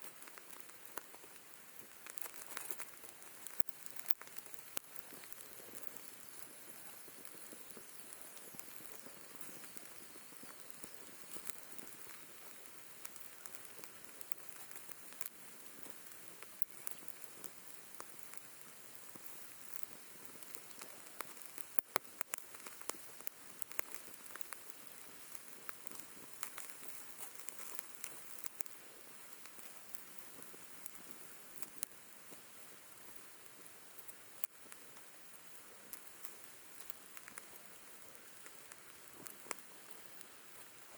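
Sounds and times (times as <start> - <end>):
meat sizzling on a grill: 0.0 - 40.9
wood fire popping and crackling: 0.0 - 40.9.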